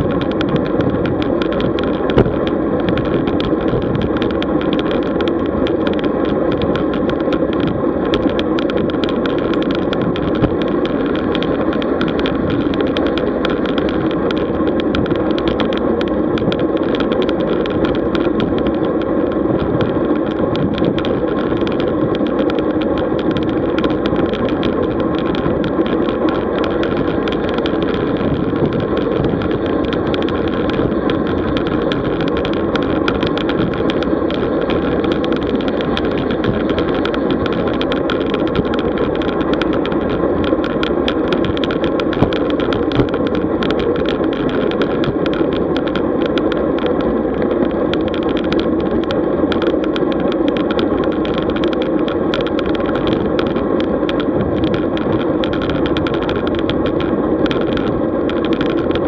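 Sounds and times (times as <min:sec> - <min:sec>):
bicycle tyre noise: 0:00.0 - 0:59.0
wind rush: 0:00.0 - 0:59.0.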